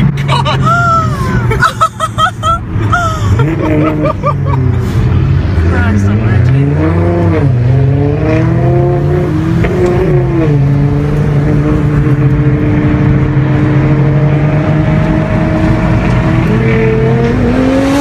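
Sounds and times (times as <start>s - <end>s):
car engine accelerating: 2.4s - 18.0s.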